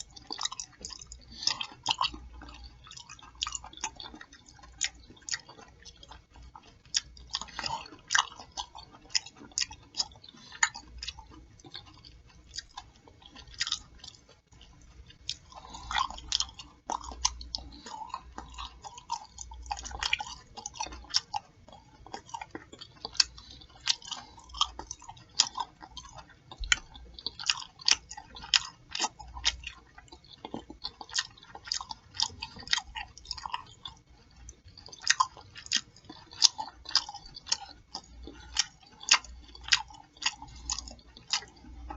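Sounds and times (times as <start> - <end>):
person chewing open-mouthed: 0.0 - 41.9.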